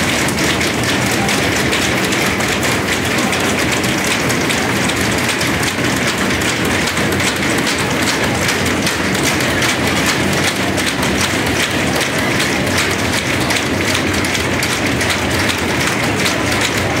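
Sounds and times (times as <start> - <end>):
crowd clapping: 0.0 - 17.0.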